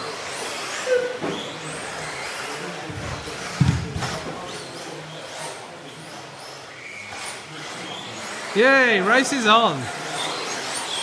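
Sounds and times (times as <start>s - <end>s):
toy car motors whining: 0.0s - 11.0s.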